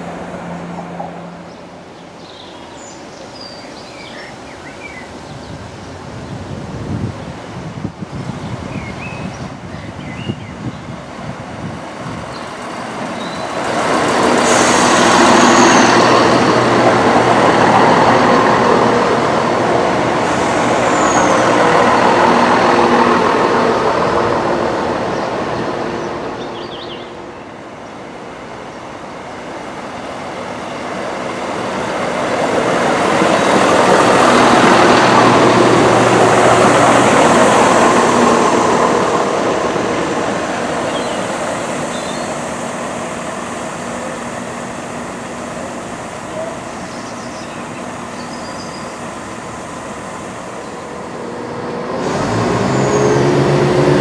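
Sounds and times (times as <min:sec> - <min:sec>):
diesel train passing on rails: 0:00.0 - 0:54.0.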